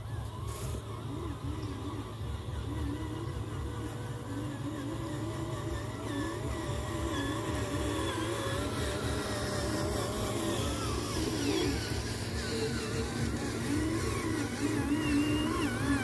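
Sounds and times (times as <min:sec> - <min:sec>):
low gear rumble: 0:00.0 - 0:16.0
small electric motors whirring: 0:00.0 - 0:16.0.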